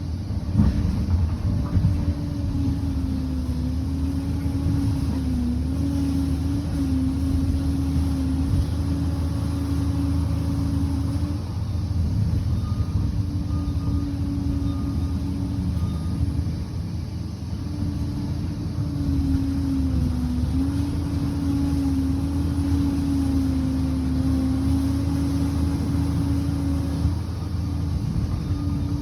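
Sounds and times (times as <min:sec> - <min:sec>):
bulldozer engine droning: 0:00.0 - 0:29.0
wavering whine: 0:02.1 - 0:29.0.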